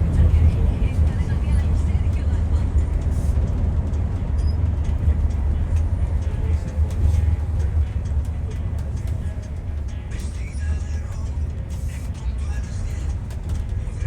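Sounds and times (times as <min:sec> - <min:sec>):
vehicle cabin rumble: 0:00.0 - 0:14.0.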